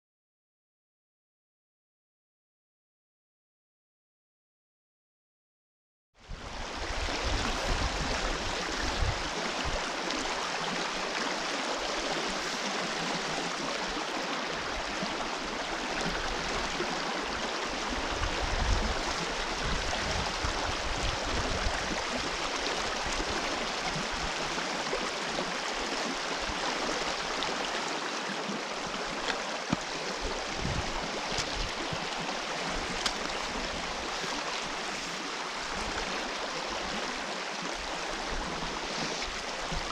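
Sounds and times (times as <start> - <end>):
river water rushing: 6.4 - 39.9.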